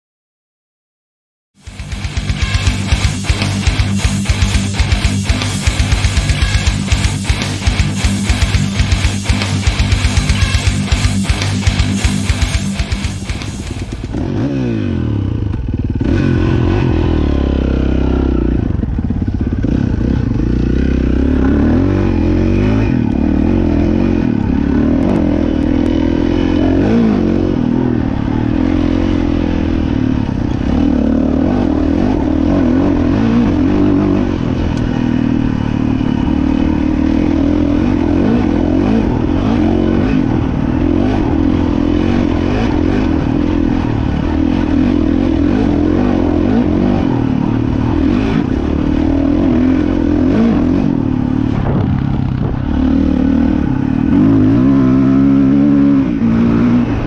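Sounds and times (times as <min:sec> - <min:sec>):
dirt bike engine revving: 0:01.6 - 0:57.0.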